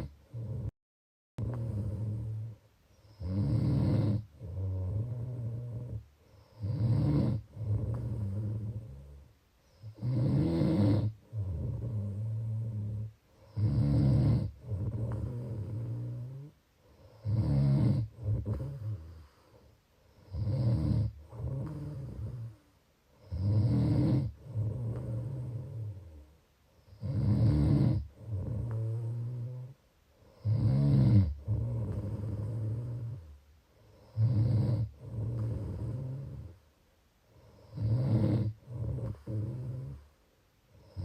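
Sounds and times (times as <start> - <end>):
person snoring: 0.0 - 0.7, 1.4 - 22.6, 23.2 - 26.3, 26.9 - 33.3, 33.9 - 36.6, 37.4 - 40.1.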